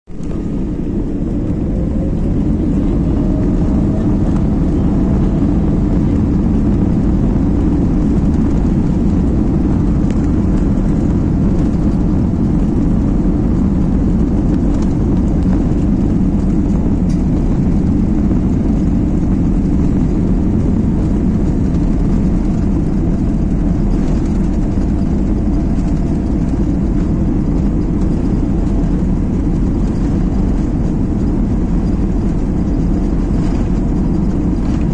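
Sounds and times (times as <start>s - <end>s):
jet engines and wheels rumbling: 0.0s - 34.9s
jet engine whine: 0.1s - 34.9s.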